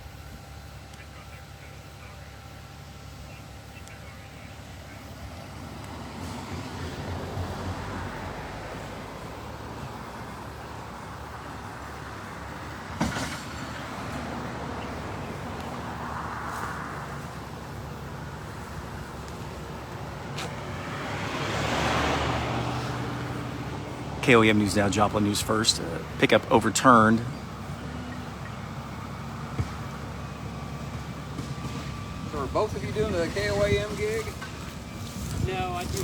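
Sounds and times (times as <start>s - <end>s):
traffic passing: 0.0s - 36.0s.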